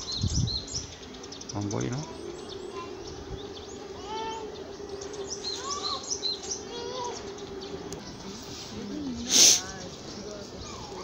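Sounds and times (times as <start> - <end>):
outdoor background noise: 0.0 - 11.0
small birds chirping: 0.0 - 11.0
steady low hum: 0.0 - 11.0.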